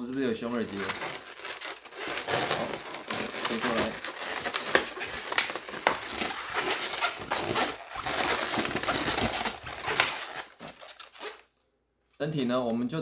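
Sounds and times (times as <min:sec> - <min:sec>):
balloons rubbing and squeaking: 0:00.0 - 0:11.5.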